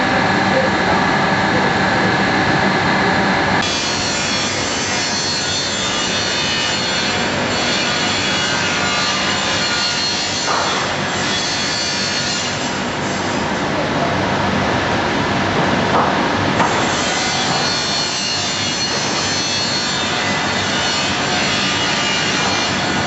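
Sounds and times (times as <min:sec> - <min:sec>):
factory machinery hum and whine: 0:00.0 - 0:23.0.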